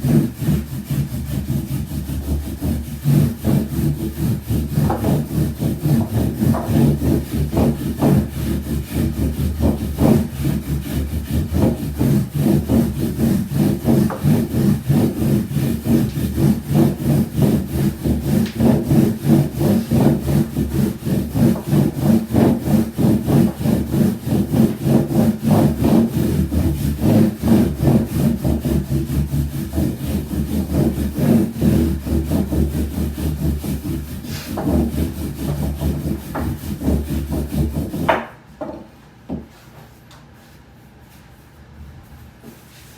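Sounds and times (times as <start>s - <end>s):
rolling pin rubbing dough: 0.0s - 38.3s.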